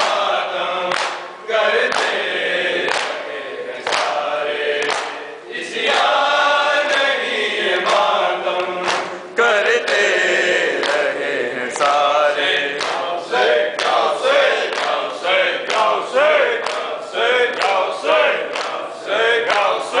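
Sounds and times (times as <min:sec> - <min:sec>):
men chanting a lament: 0:00.0 - 0:20.0
reciter on a microphone: 0:00.0 - 0:20.0
rhythmic chest-beating slaps: 0:00.0 - 0:20.0.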